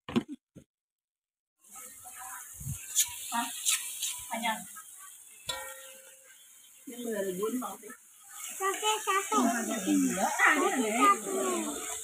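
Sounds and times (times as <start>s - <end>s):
onions sizzling in a wok: 1.6s - 12.0s.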